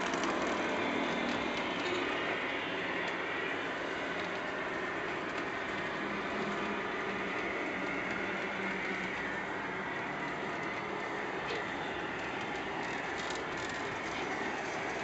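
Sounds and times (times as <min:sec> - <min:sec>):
model train running: 0:00.0 - 0:15.0.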